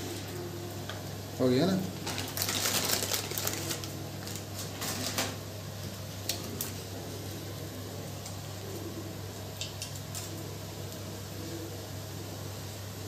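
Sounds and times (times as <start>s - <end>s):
spices crackling in hot oil: 0.0s - 13.0s.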